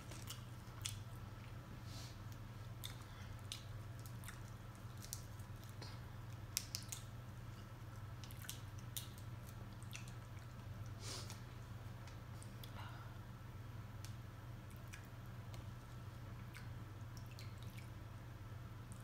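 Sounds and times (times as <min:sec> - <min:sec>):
person chewing wet food: 0:00.0 - 0:12.8, 0:14.6 - 0:18.2.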